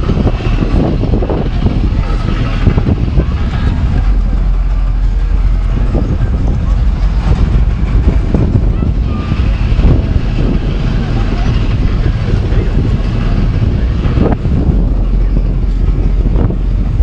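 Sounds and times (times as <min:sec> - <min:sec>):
boat engines rumbling: 0:00.0 - 0:17.0
indistinct voices: 0:00.0 - 0:17.0
wind on microphone: 0:00.0 - 0:17.0.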